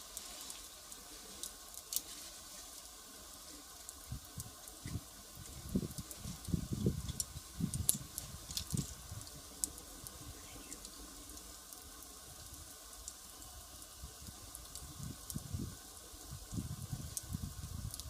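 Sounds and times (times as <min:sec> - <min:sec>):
faint hiss: 0:00.0 - 0:18.0
fire crackling with pops: 0:00.0 - 0:18.0
soft low puffs of flame: 0:00.0 - 0:18.0.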